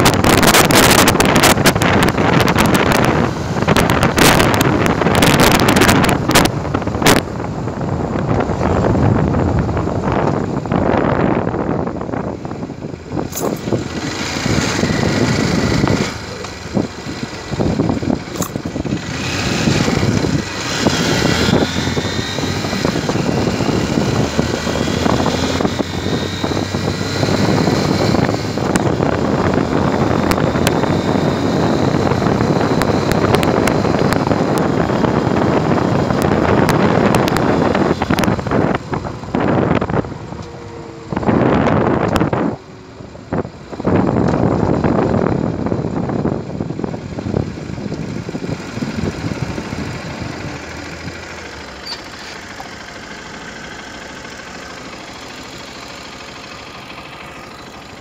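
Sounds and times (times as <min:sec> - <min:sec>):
wind rushing on microphone: 0:00.0 - 0:51.3
motorcycle engine running: 0:00.0 - 0:58.0.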